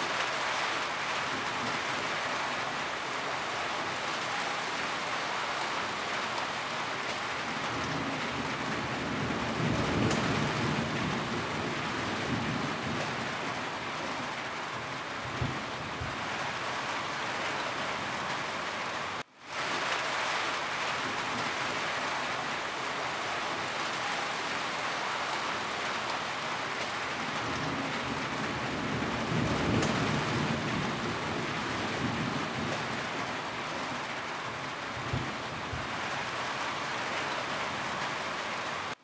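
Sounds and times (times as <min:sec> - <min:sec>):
heavy rain on a roof: 0:00.0 - 0:39.0.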